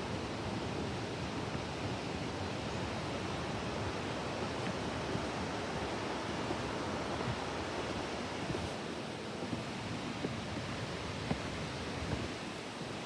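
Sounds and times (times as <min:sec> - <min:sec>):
mountain creek rushing: 0:00.0 - 0:13.0.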